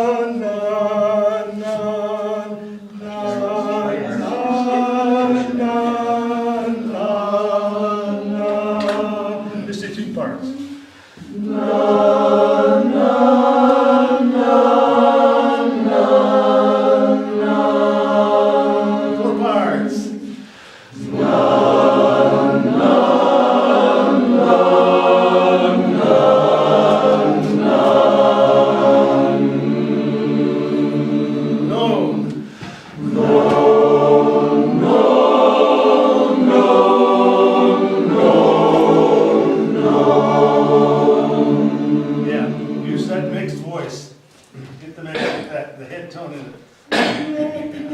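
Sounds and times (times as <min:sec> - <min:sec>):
chorus singing in harmony: 0:00.0 - 0:10.0, 0:11.2 - 0:43.8.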